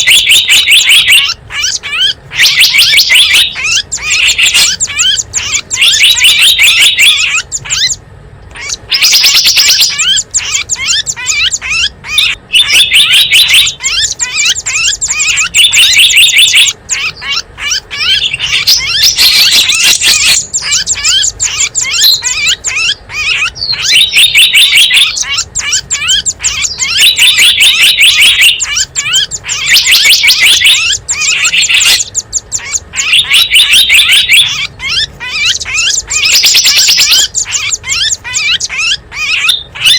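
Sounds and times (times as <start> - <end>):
buzzy bird trilling: 0.0 - 39.9
small birds chirping: 0.0 - 39.9.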